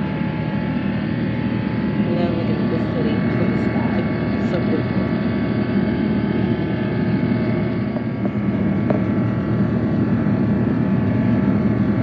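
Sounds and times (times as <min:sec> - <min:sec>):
constant hum: 0:00.0 - 0:12.0
jet engines droning: 0:00.0 - 0:12.0.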